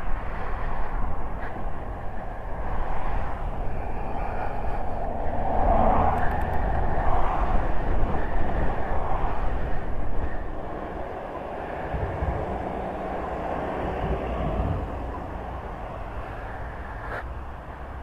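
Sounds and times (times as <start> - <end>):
road noise rumble: 0.0 - 18.0
wind rush: 0.0 - 18.0.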